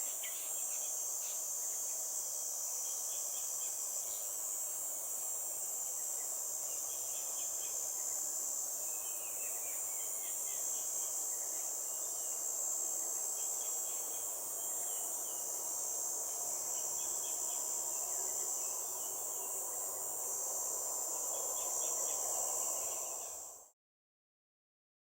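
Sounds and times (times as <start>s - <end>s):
insects chorus: 0.0s - 23.8s.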